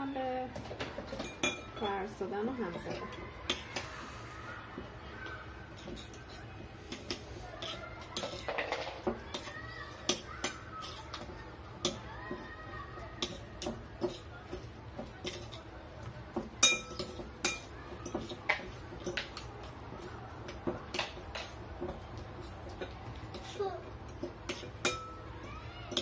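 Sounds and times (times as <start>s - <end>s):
metal cutlery clinking on glass bowl: 0.6s - 3.8s, 5.2s - 26.0s.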